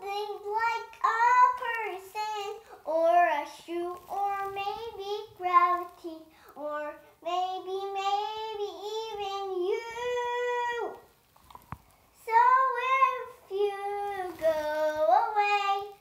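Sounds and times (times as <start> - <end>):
girl singing: 0.0 - 11.2, 12.1 - 16.0.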